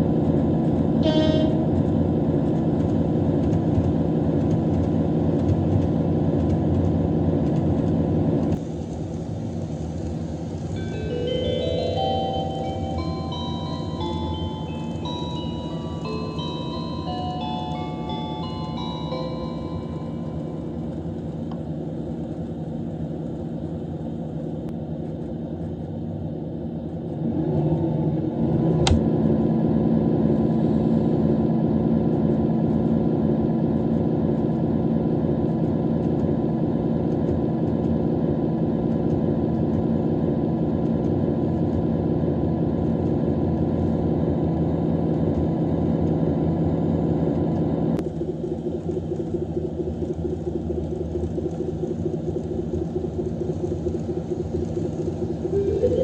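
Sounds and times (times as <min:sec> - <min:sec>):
diesel railcar engine running: 0:00.0 - 0:56.0.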